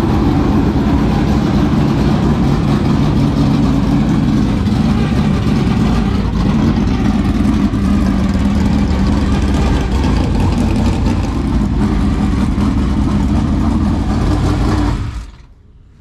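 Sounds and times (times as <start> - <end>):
race car engine at low revs: 0.0 - 16.0.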